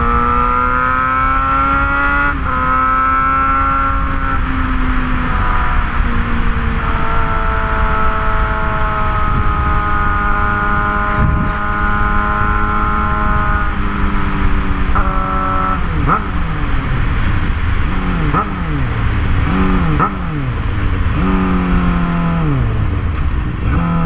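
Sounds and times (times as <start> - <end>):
motorcycle exhaust note: 0.0 - 24.0
wind rumble on microphone: 3.4 - 24.0.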